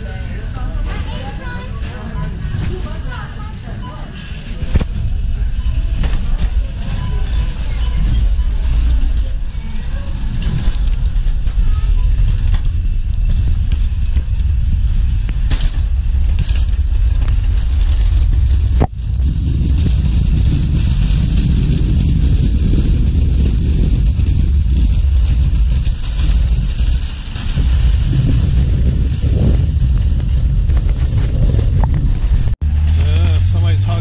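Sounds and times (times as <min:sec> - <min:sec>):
engine and road rumble: 0:00.0 - 0:34.0.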